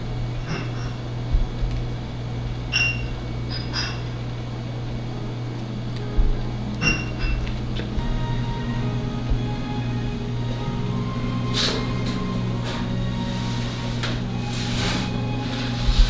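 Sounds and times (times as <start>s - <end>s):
equipment humming: 0.0s - 16.0s.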